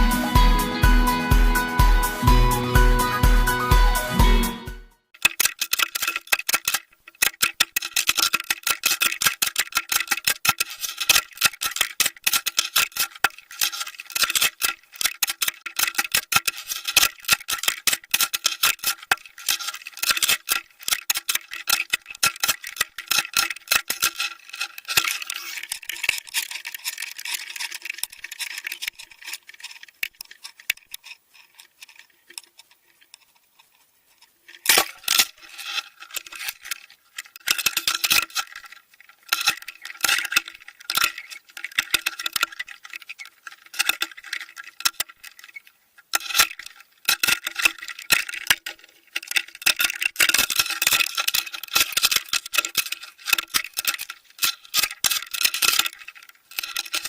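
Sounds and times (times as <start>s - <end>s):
underwater clicking and crackling: 5.1s - 57.0s.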